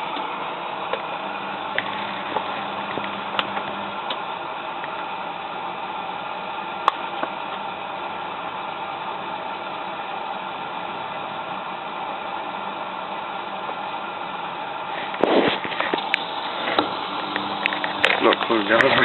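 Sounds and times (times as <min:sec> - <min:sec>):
washing machine hissing: 0:00.0 - 0:19.0.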